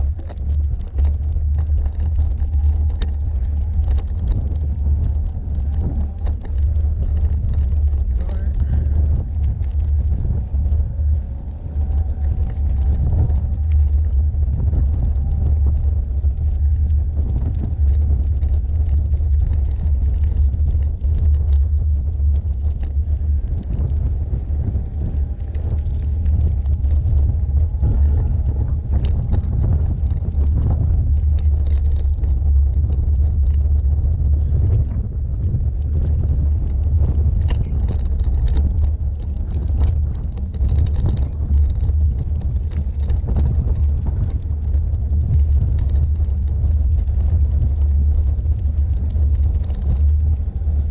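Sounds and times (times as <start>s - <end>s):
bike knocks and rattles: 0.0s - 50.9s
bike tyres rumbling on gravel: 0.0s - 50.9s.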